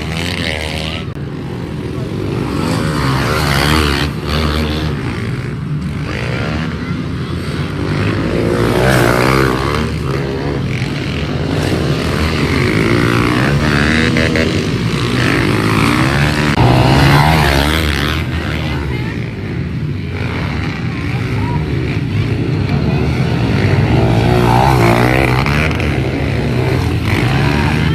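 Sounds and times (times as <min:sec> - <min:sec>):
pit bike engines revving: 0:00.0 - 0:27.9.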